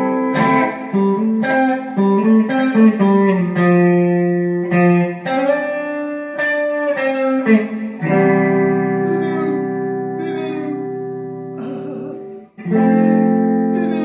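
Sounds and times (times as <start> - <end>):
guitar chord ringing: 0.0 - 14.0
slow guitar playing: 0.0 - 14.0.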